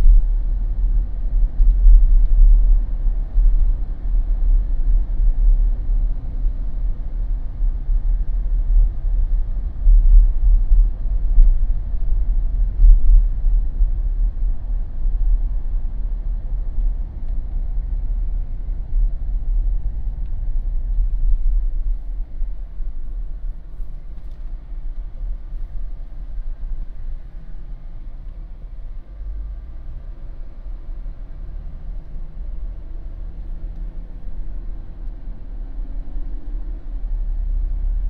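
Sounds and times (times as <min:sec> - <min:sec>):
road rumble and tyre noise: 0:00.0 - 0:38.0.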